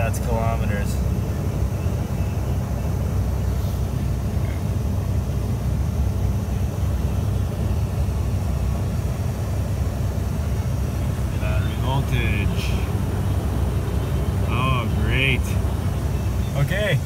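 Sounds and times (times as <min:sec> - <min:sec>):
pickup engine idling: 0:00.0 - 0:17.0.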